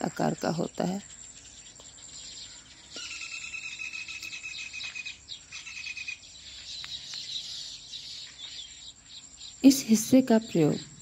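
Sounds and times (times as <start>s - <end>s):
insects and birds chirping: 0.0s - 11.0s.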